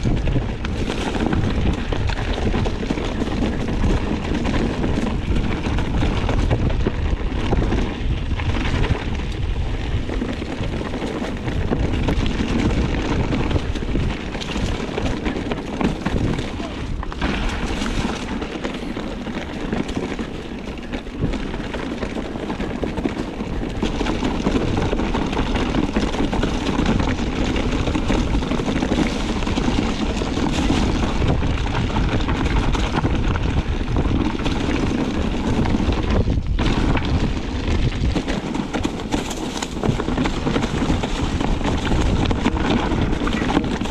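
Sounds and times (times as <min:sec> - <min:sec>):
strong wind buffeting microphone: 0:00.0 - 0:43.9.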